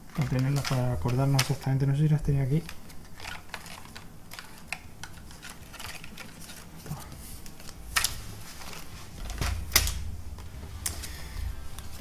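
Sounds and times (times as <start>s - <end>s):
cards and pieces tapping and clicking: 0.0s - 10.0s.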